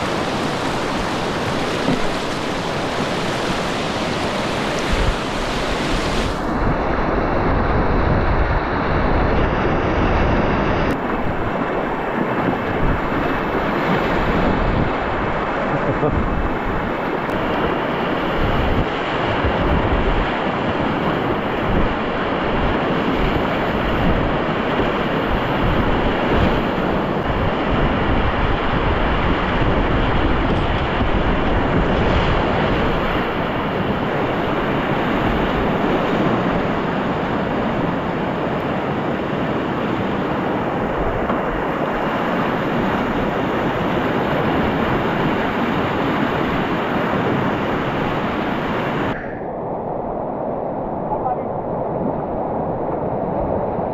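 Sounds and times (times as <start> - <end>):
whitewater rapids rushing: 0.0 - 7.9, 9.0 - 49.3
wind buffeting microphone: 0.0 - 53.9.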